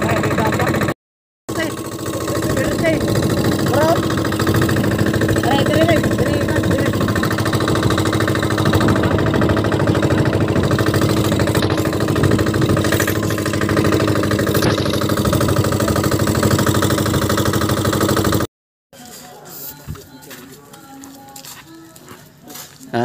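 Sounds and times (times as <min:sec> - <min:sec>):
boat engine chugging: 0:00.0 - 0:18.5.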